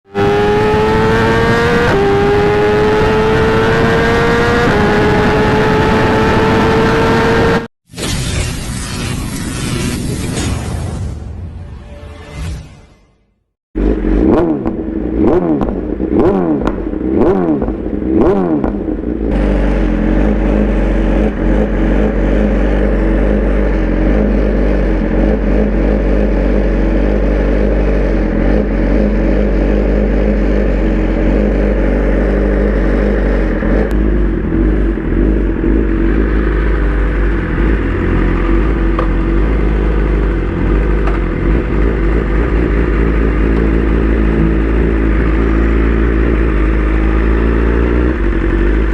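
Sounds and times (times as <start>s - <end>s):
motorcycle engine drone: 0.0s - 13.2s, 13.8s - 48.9s
motorcycle engines revving: 0.1s - 7.7s, 13.8s - 48.9s.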